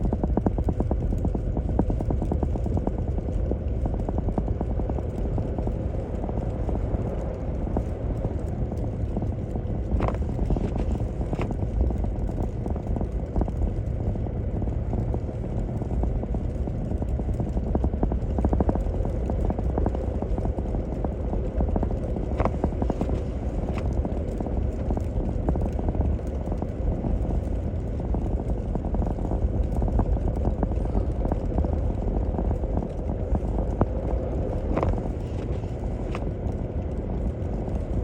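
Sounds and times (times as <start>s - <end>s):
engine and tyres rumbling: 0.0s - 38.0s
tyres crackling over packed snow: 0.0s - 38.0s.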